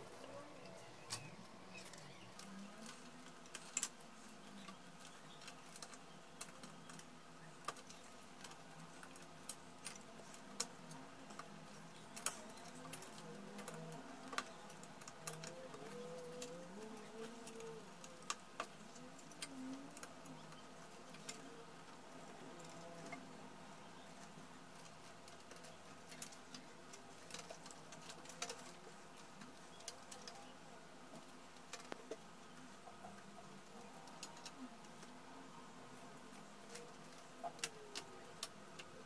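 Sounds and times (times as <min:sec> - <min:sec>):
wire harnesses and cable clips clicking: 0:00.2 - 0:23.4, 0:24.2 - 0:35.2, 0:36.3 - 0:39.0.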